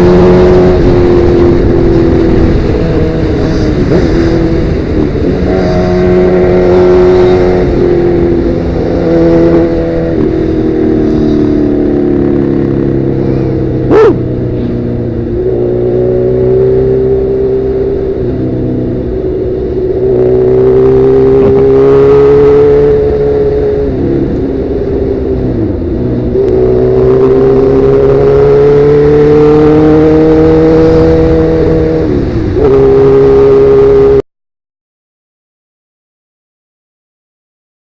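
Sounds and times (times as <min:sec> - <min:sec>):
motorcycle exhaust accelerating: 0:00.0 - 0:34.2.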